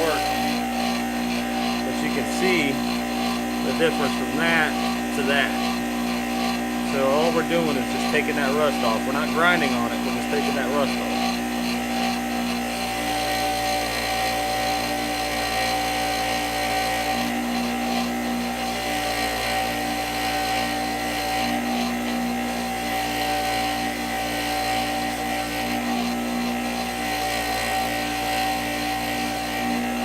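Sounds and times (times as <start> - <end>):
bench grinder motor hum: 0.0 - 30.0
wire wheel scratching metal: 0.0 - 30.0.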